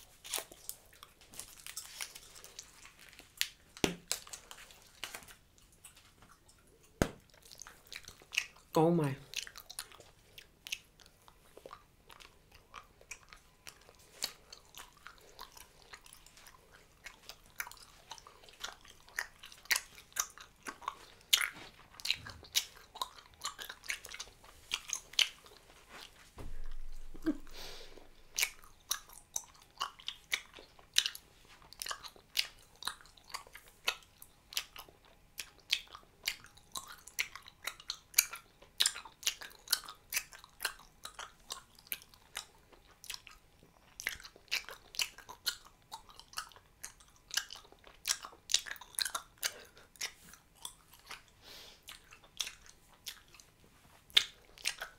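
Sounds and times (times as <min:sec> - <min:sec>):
person chewing gum: 0:00.0 - 0:54.9.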